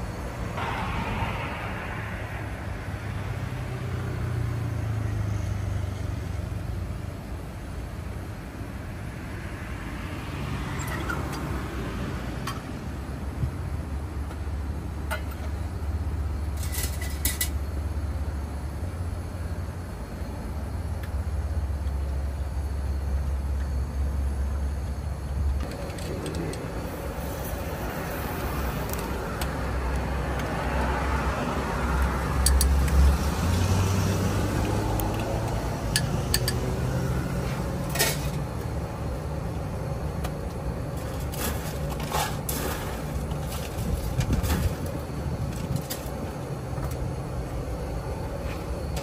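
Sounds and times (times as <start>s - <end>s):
engine rumbling: 0.0s - 49.0s.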